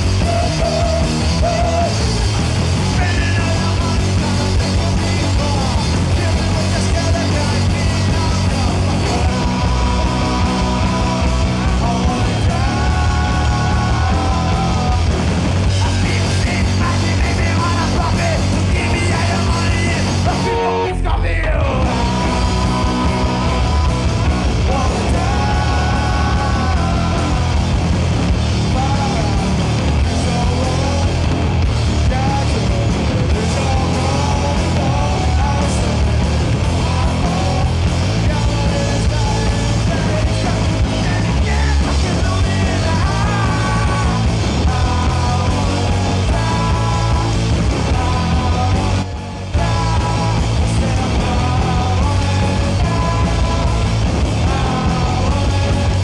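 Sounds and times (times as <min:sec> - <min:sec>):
person shouting singing: 0:00.0 - 0:02.2, 0:02.8 - 0:27.9, 0:32.0 - 0:56.0
drum kit: 0:00.0 - 0:56.0
electric guitar: 0:00.0 - 0:56.0.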